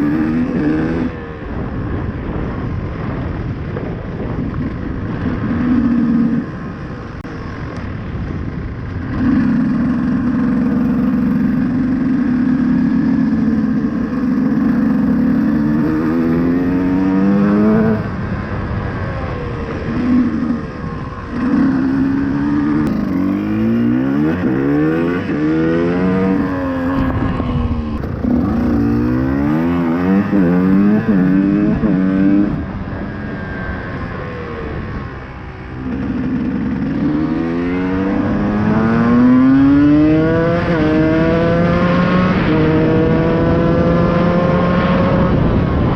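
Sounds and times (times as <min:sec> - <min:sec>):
two-stroke motorcycle engine revving: 0:00.0 - 0:03.5, 0:04.4 - 0:45.9.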